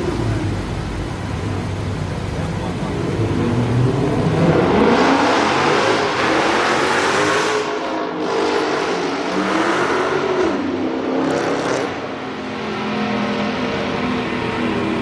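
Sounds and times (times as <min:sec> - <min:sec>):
car engine revving hard: 0:01.9 - 0:15.0.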